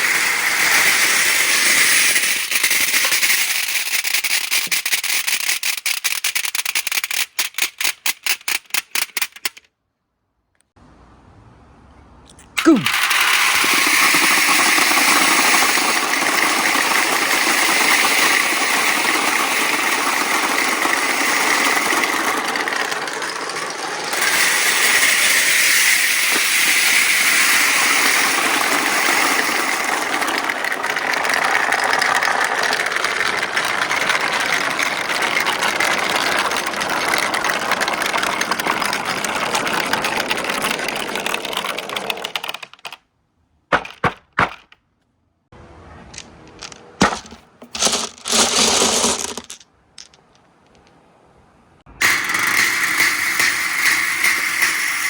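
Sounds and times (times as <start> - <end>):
marbles rolling down marble run: 0.0 - 9.6, 12.8 - 43.0, 46.1 - 50.9, 52.0 - 55.0.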